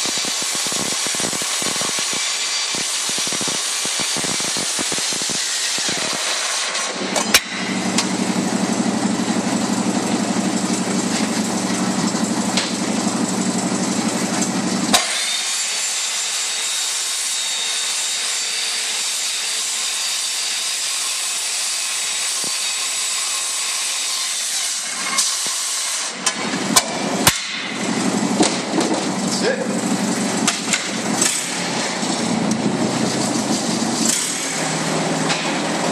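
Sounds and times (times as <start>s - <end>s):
circular saw cutting metal: 0.0s - 35.9s.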